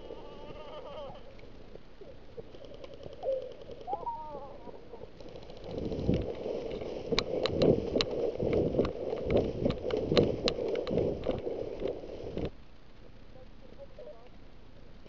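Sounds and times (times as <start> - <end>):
dry grass rustling: 0.0 - 15.0.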